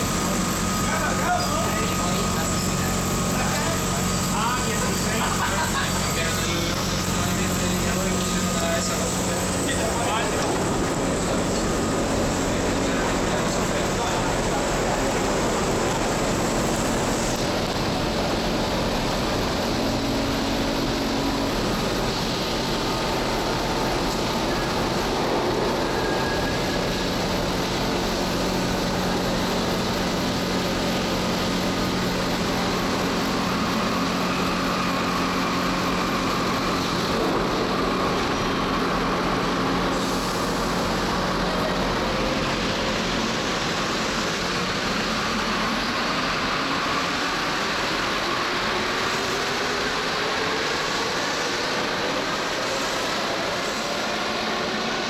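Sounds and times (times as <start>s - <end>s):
metro train humming: 0.0s - 55.0s
metro train moving off: 0.0s - 55.0s.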